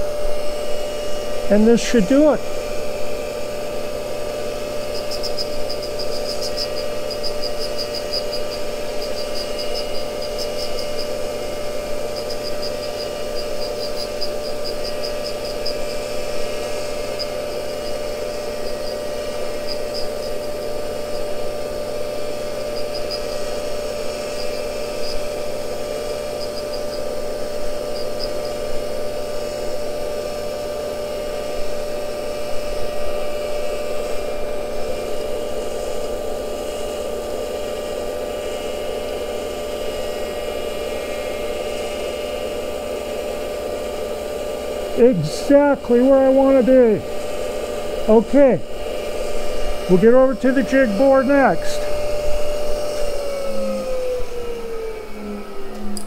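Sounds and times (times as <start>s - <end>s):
cutter ticking against grinding wheel: 0.0s - 54.4s, 55.2s - 56.0s
grinder humming: 0.0s - 56.0s.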